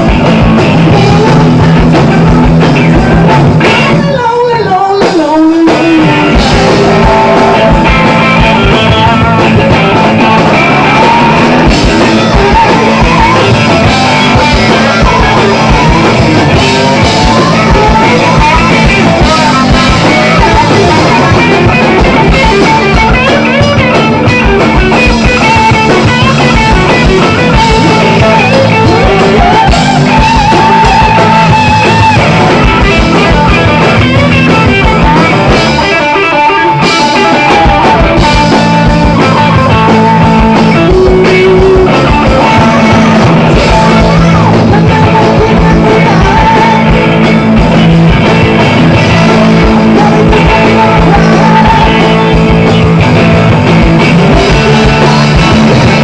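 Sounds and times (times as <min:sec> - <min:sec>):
person singing: 0:00.0 - 0:53.2
drum kit: 0:00.0 - 0:56.0
electric guitar: 0:00.0 - 0:56.0.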